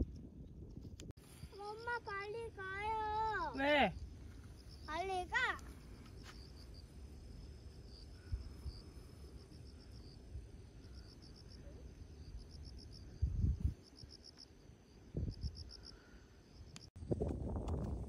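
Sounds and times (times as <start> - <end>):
insects chirping: 1.2 - 17.0.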